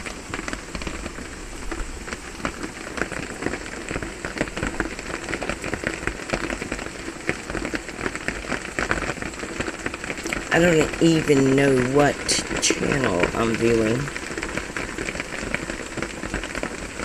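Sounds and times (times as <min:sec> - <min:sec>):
rain on a metal roof: 0:00.0 - 0:17.0.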